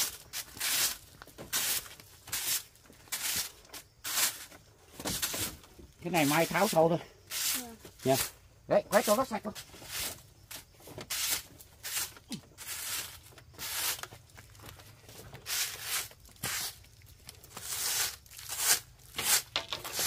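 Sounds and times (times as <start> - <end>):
broom sweeping ground: 0.0 - 20.0.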